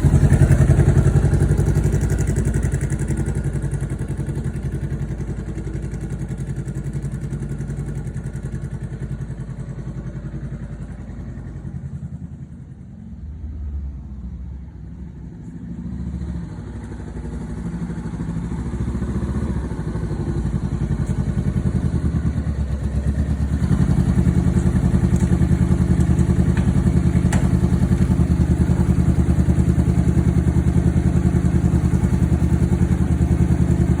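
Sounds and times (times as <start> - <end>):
motorcycle engine running: 0.0 - 13.0, 15.4 - 34.0.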